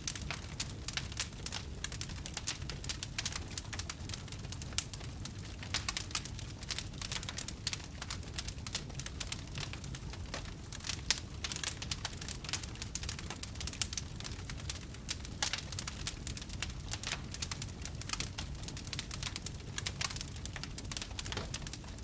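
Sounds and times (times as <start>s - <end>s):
low rumble of burning: 0.0s - 22.0s
wood fire crackling: 0.0s - 22.0s.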